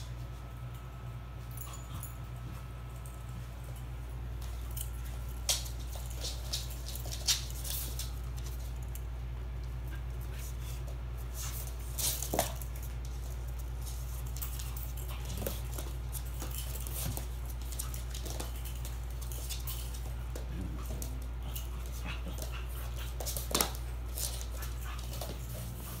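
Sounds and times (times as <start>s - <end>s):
dog paws clicking on wood: 0.6s - 26.0s.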